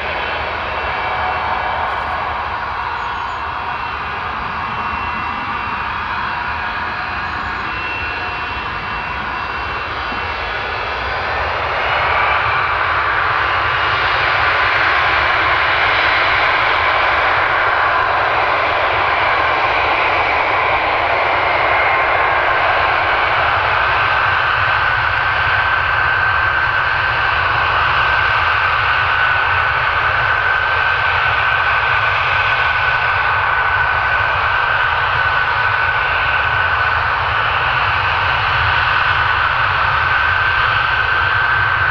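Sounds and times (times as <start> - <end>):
high turbine whines: 0.0 - 41.9
jet engines rumbling: 0.0 - 41.9.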